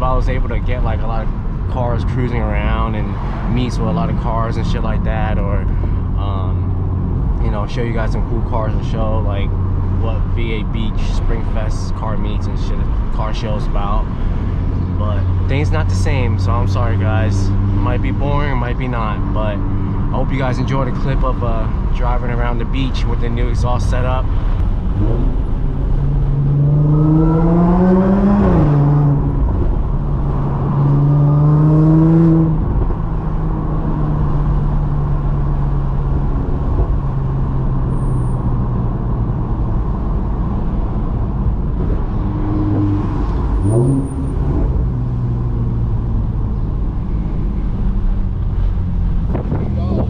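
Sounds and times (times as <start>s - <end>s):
car engine revving: 0.0s - 50.0s
car exhaust cruising drone: 0.0s - 50.0s.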